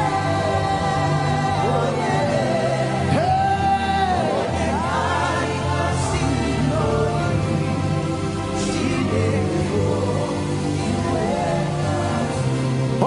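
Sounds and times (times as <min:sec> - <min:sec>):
band holding sustained chords: 0:00.0 - 0:13.0.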